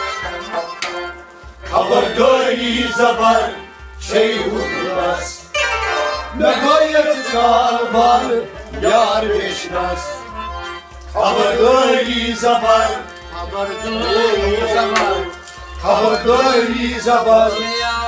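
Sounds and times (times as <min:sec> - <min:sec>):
plucked rabab: 0:00.0 - 0:18.0
men singing devotional song: 0:01.7 - 0:05.5, 0:06.3 - 0:18.0.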